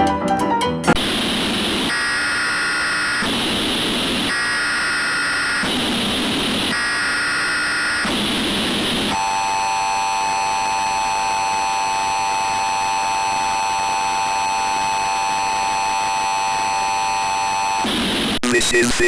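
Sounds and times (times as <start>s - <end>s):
burst of harsh noise: 0.9s - 19.0s.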